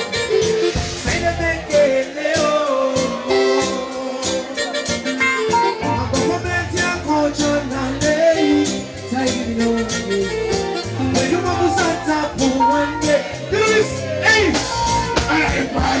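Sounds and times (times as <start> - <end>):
reggae band playing: 0.0 - 16.0
person singing into a microphone: 0.1 - 16.0.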